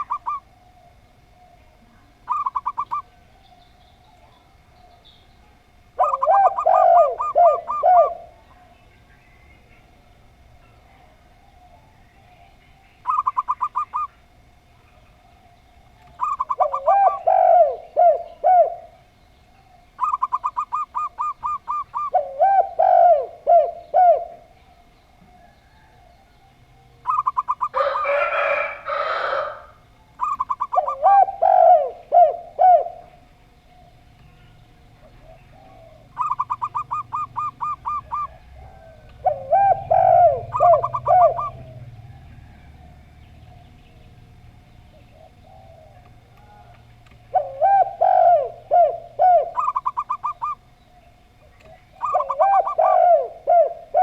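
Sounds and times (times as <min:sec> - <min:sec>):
doves calling: 0:00.0 - 0:54.0.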